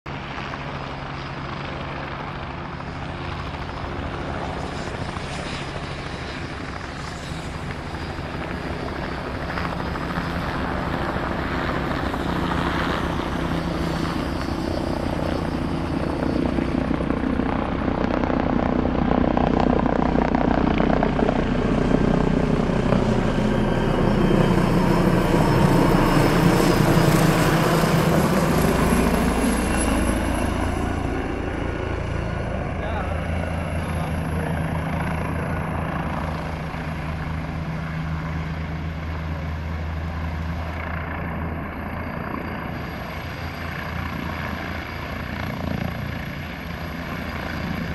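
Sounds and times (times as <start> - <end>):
helicopter approaching to land: 0.1 - 47.9.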